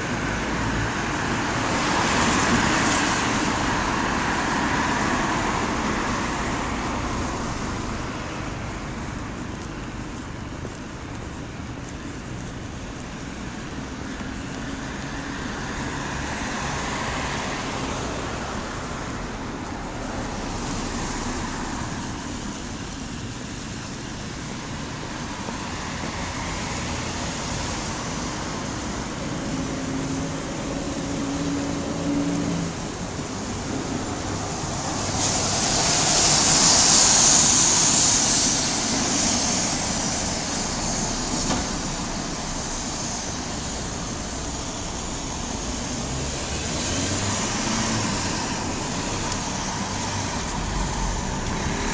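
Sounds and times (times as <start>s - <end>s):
rain: 0.0s - 51.9s
vehicles passing on wet road: 0.0s - 51.9s.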